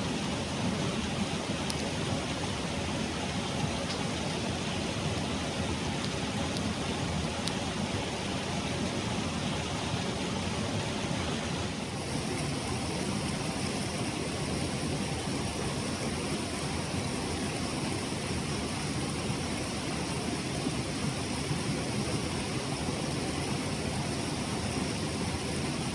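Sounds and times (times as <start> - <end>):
stream rushing over rocks: 0.0 - 25.9.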